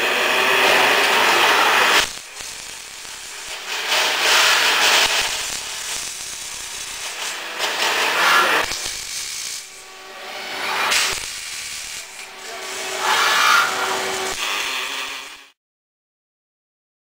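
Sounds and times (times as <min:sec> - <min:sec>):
welding hissing and rasping: 0:00.0 - 0:15.6.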